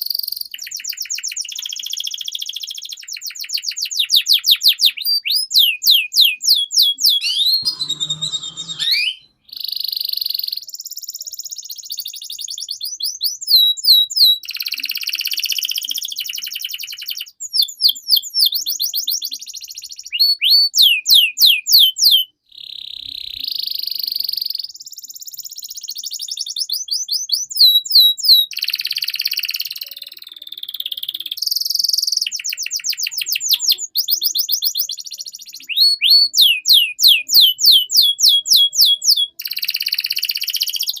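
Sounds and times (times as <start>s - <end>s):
canary singing: 0.2s - 24.8s, 25.9s - 41.0s.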